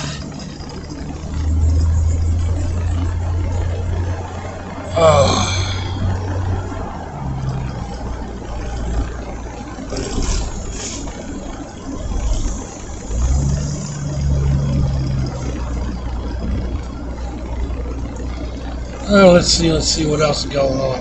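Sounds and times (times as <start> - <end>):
car engine and road drone: 0.0 - 21.0
low hum: 0.0 - 21.0.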